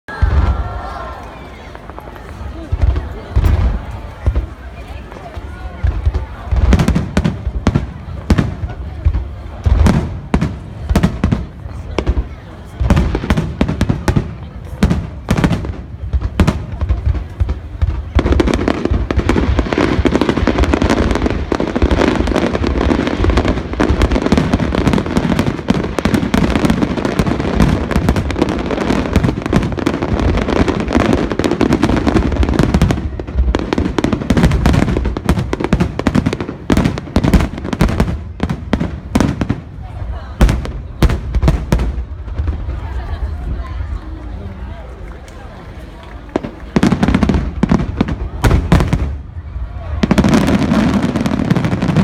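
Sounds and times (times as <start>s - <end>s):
fireworks bangs and crackling: 0.1s - 52.0s.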